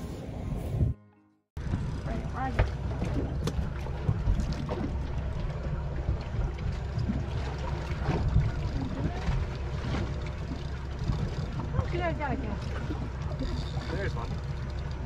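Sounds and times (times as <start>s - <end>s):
boat engine rumble: 0.0s - 15.0s
water noise: 1.6s - 15.0s.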